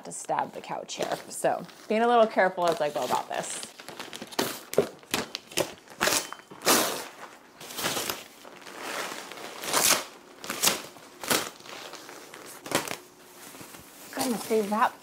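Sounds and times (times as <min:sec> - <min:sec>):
plastic wrap crinkling: 0:00.3 - 0:15.0.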